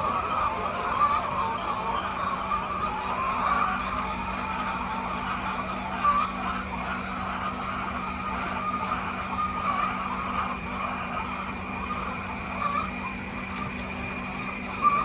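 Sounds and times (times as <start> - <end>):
chickens peeping: 0.0 - 15.0
low machine hum: 0.0 - 15.0.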